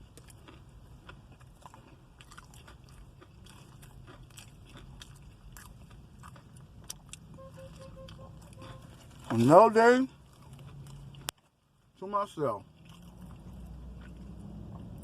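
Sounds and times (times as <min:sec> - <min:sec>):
person chewing food: 0:00.0 - 0:12.0, 0:12.6 - 0:15.0.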